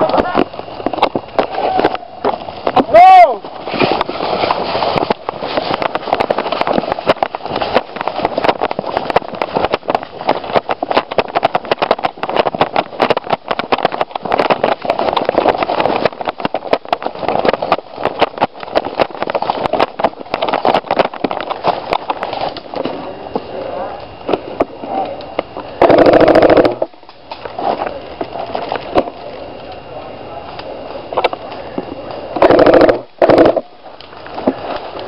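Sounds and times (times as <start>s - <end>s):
steady rustling haze: 0.0s - 35.0s.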